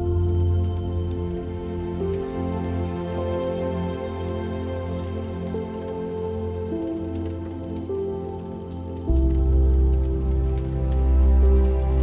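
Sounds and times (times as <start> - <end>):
soft ambient music: 0.0 - 12.0.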